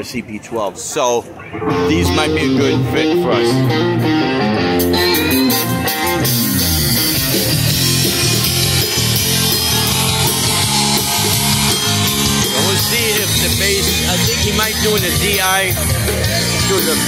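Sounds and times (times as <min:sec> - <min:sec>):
sliding guitar notes: 0:01.4 - 0:17.0
live rock band playing: 0:01.5 - 0:17.0.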